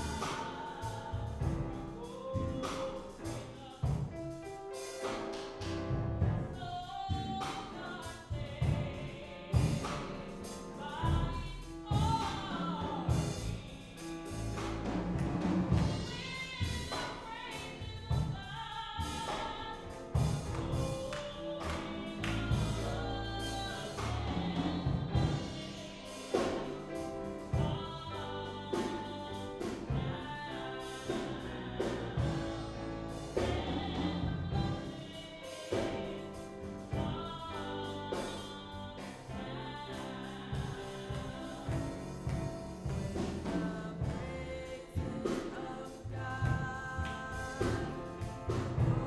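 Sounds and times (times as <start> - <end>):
drum and cymbal strokes: 0.0 - 5.6, 6.2 - 49.0
grand piano: 0.0 - 49.0.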